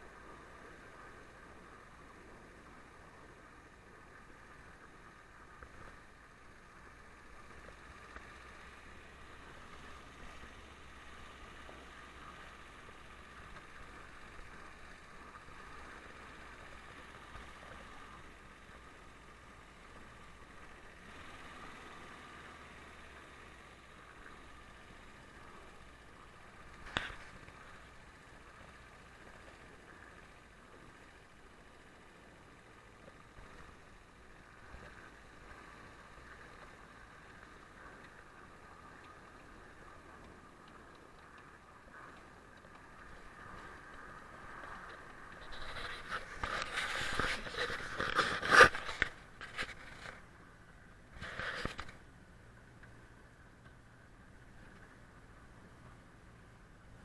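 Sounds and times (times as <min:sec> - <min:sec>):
muffled car engine hum: 0:00.0 - 0:57.0.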